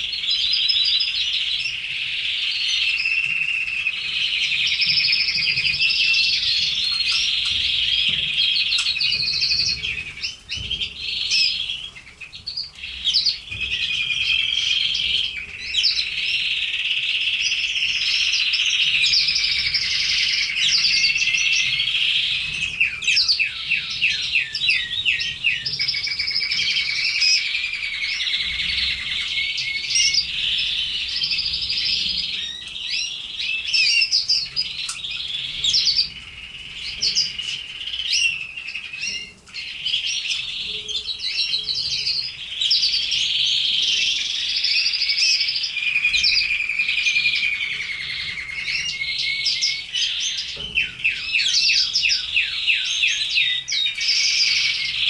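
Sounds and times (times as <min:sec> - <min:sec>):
canaries singing fast trills: 0:00.0 - 0:55.0.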